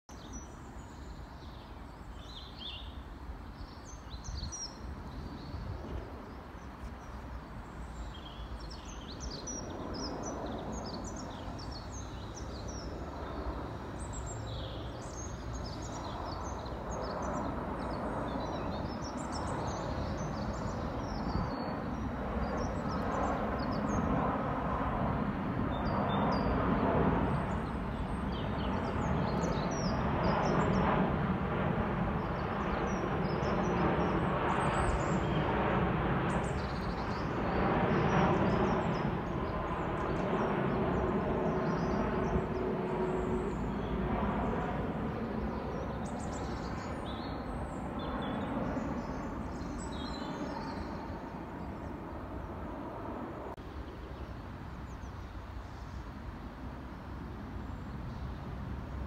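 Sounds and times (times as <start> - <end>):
small birds chirping: 0.1 - 56.1
jet engine noise overhead: 0.1 - 59.0.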